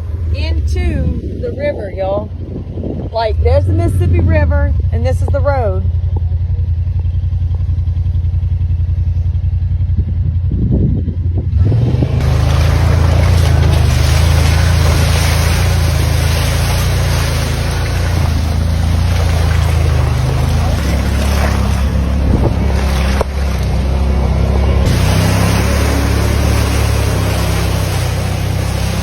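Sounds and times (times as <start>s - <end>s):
wind noise on microphone: 0.0s - 5.5s, 9.8s - 27.5s
vehicle engine running: 0.0s - 29.0s.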